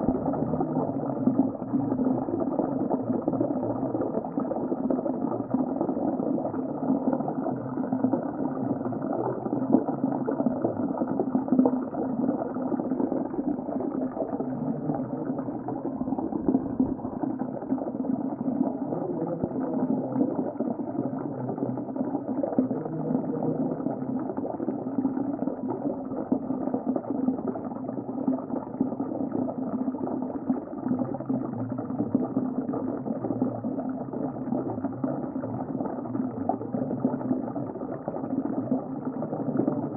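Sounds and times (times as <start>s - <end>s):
muffled underwater water churning: 0.0s - 39.9s.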